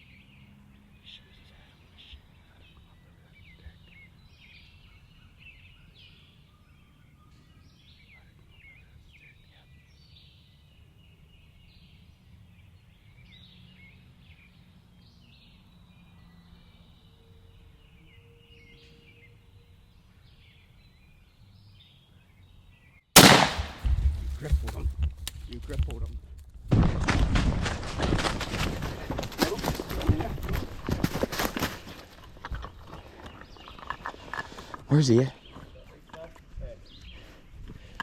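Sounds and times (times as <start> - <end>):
songbirds chirping: 0.0 - 26.7, 27.6 - 38.0.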